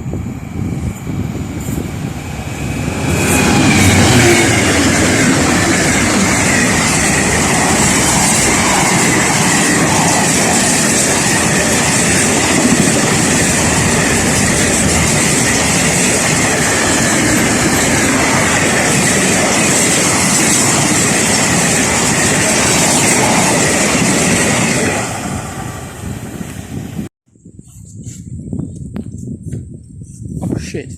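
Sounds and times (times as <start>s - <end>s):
train wheels rumbling on rails: 0.0s - 27.1s.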